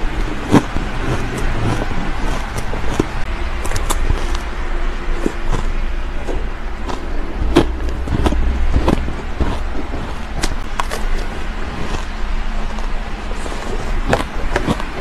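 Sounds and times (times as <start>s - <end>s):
chewing and crunching ice: 0.0s - 15.0s
steady low rumble: 0.0s - 15.0s.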